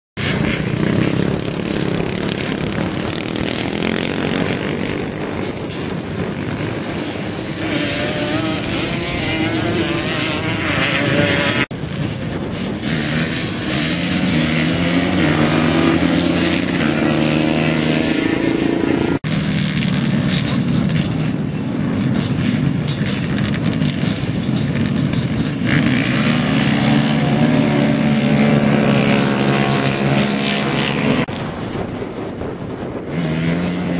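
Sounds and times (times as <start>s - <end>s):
quad bike engines revving: 0.2s - 33.9s.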